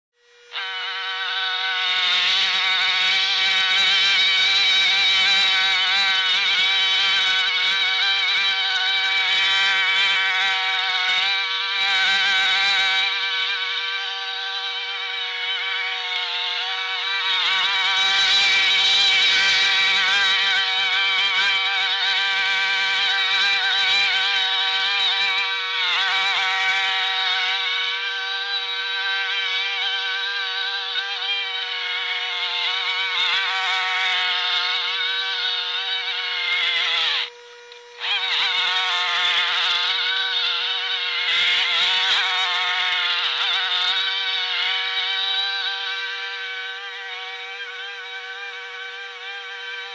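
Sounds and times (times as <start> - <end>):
lawn mower engine high buzzing drone: 0.2 - 49.9.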